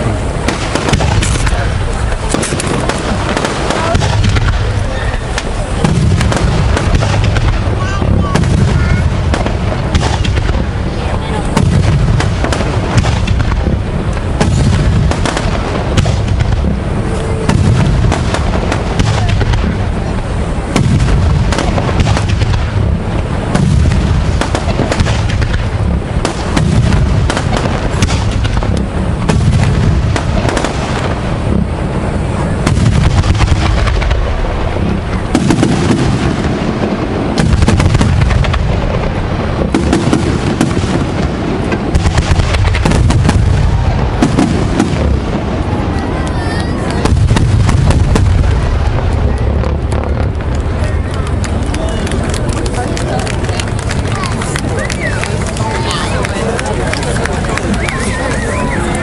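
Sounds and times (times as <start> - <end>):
fireworks booming: 0.0 - 59.0
fireworks crackling: 0.0 - 59.0.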